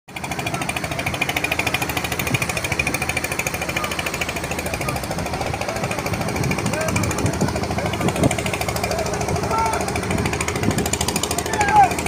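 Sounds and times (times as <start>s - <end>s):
small engine chugging: 0.1s - 12.0s.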